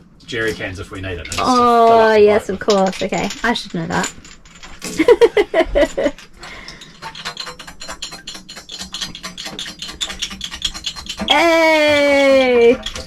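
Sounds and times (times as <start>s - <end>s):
siphon valve clicking and rattling: 2.4s - 13.0s.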